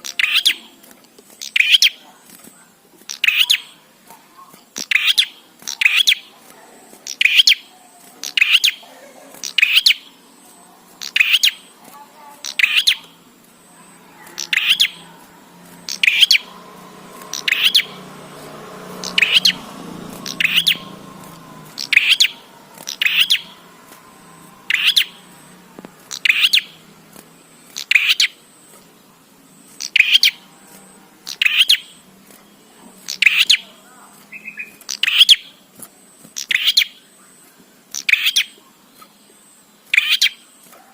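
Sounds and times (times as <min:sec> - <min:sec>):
bird chirping: 0:00.0 - 0:40.8.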